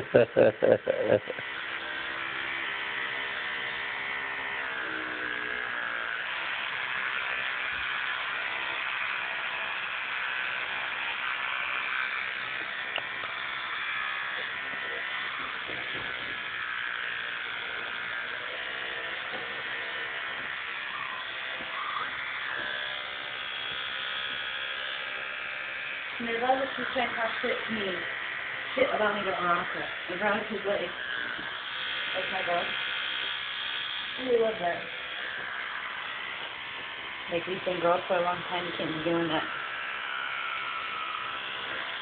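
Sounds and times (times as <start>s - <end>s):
electric toothbrush buzzing: 0.0s - 42.0s.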